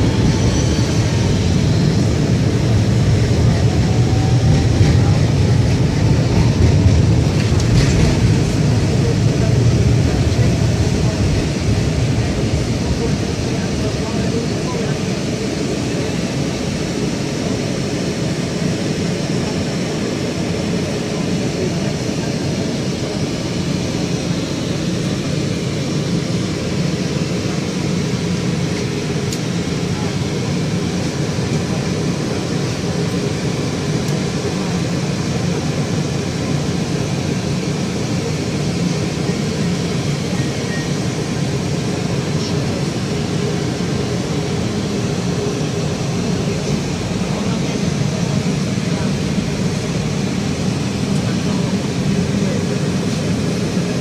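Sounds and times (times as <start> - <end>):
tram running noise: 0.0 - 54.0.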